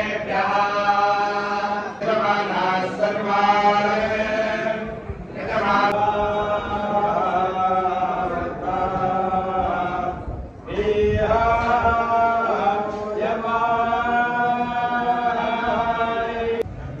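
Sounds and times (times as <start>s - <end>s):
voices chanting together: 0.0s - 16.7s.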